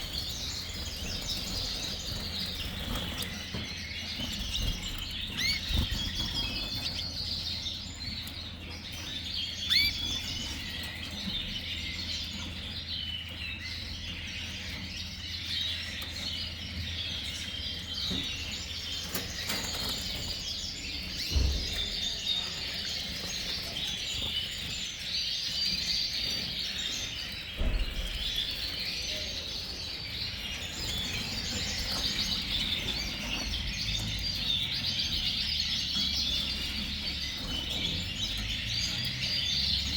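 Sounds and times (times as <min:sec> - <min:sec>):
canaries chirping and twittering: 0:00.0 - 0:39.9.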